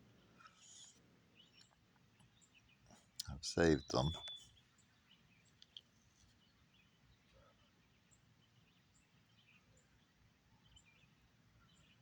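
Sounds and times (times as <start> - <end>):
faint bird chirps: 0.1 - 12.0.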